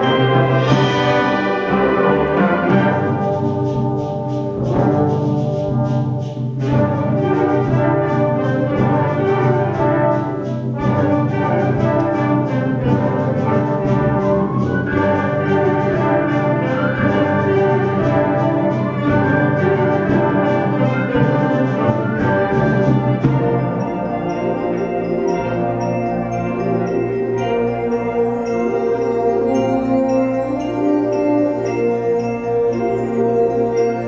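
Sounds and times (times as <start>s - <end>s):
concert band with brass: 0.0s - 34.0s.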